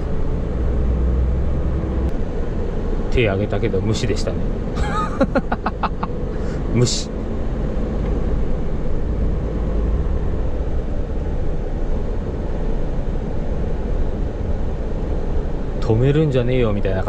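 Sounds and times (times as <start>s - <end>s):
diesel truck engine rumbling: 0.0s - 17.0s.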